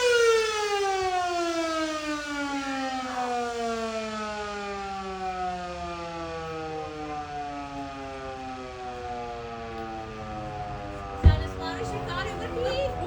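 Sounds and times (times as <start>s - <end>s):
warning siren winding down: 0.0s - 13.0s.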